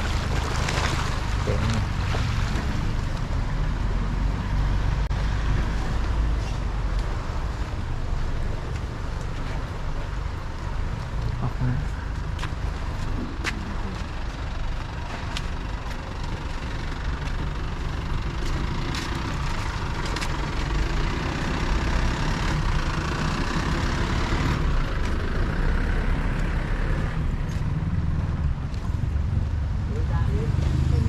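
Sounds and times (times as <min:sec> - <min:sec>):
engine rumbling: 0:00.0 - 0:31.0.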